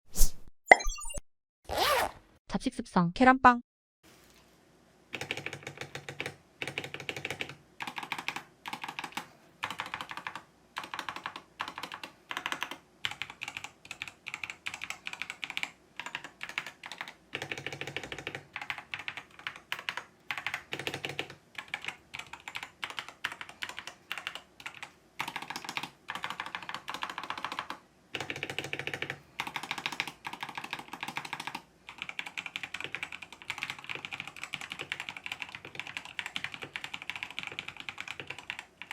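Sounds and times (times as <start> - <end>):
mechanical keyboard typing: 5.2 - 38.9.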